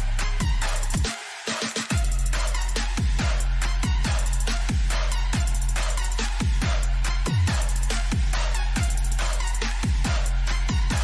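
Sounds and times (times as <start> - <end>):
deep bass: 0.0 - 1.1, 1.9 - 11.0
heavy kick drum: 0.0 - 1.1, 1.9 - 11.0
electronic dance music: 0.0 - 11.0
ticking hi-hats: 0.0 - 11.0.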